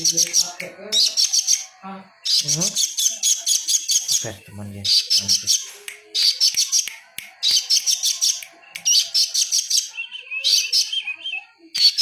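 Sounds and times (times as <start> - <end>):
songbird chattering: 0.0 - 12.0.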